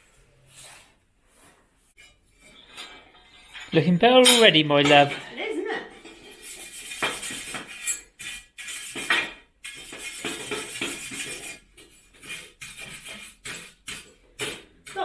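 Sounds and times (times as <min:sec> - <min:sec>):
hand tools scraping on metal: 0:00.3 - 0:15.0.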